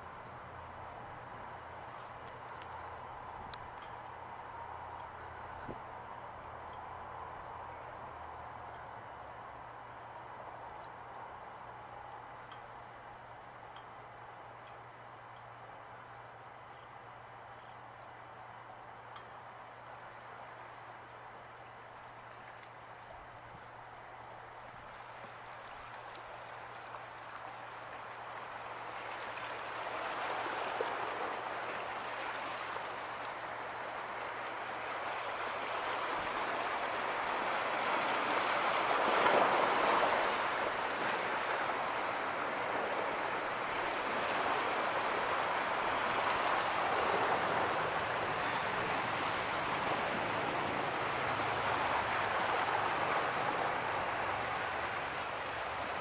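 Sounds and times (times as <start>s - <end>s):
boat waves rushing water: 0.0s - 56.0s.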